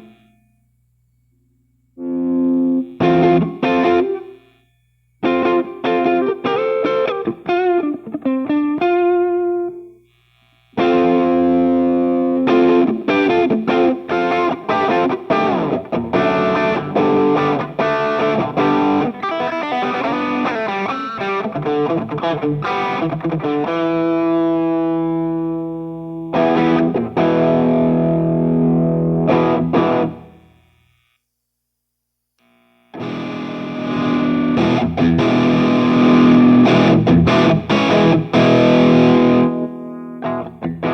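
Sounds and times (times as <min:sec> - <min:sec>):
distorted electric guitar lead: 0:00.0 - 0:00.6, 0:02.0 - 0:30.7, 0:32.4 - 0:40.9.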